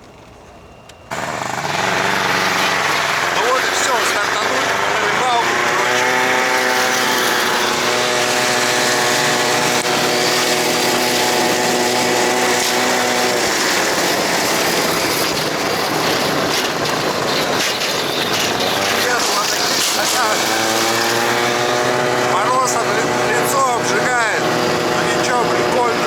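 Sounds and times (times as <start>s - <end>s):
rough rushing noise: 1.1s - 26.0s
snowmobile engine running: 1.1s - 26.0s.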